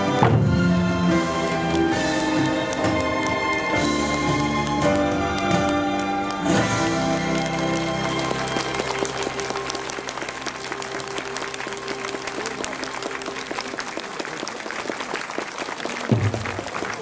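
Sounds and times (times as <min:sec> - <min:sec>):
low music notes: 0:00.0 - 0:13.8
audience applauding: 0:00.6 - 0:17.0.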